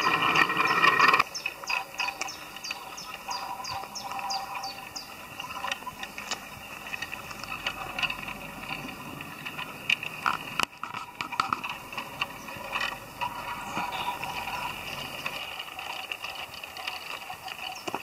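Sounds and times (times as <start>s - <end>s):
model train running on track: 0.0s - 18.0s
wheels clicking and rattling: 0.0s - 18.0s.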